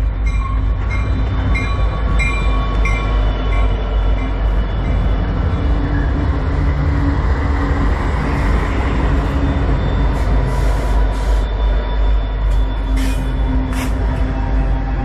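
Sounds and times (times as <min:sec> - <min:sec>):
diesel locomotive engine rumble: 0:00.0 - 0:15.0
train wheels rolling on rails: 0:00.0 - 0:15.0.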